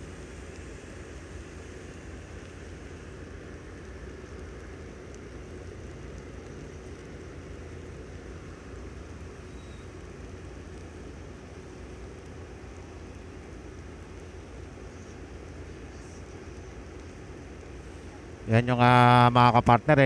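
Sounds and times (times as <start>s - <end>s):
faint steady hum: 0.0s - 20.0s
low engine rumble: 0.0s - 20.0s.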